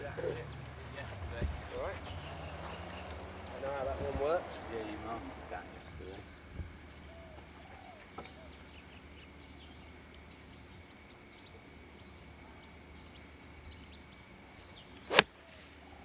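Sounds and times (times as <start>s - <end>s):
bird chirps: 0.0s - 15.2s
insect drone: 0.0s - 16.0s.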